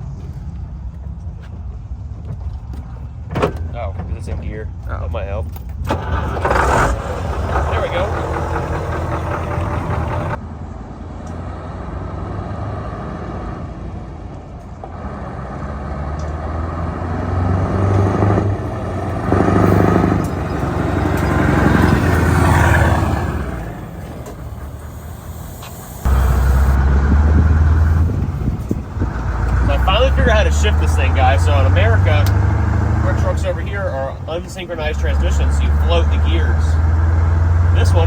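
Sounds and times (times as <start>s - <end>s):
truck diesel engine accelerating: 5.8s - 10.4s, 11.4s - 38.0s.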